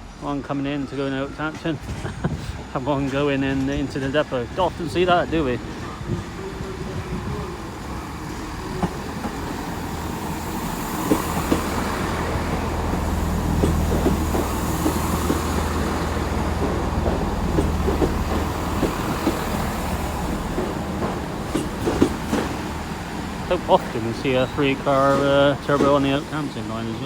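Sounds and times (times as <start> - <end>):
diesel train engine drone: 0.0 - 27.0
train wheels clicking over rail joints: 1.5 - 27.0.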